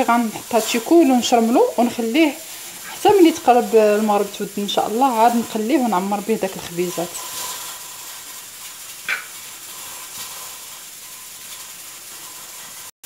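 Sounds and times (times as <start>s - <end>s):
utensil scraping a pan: 0.1s - 12.9s.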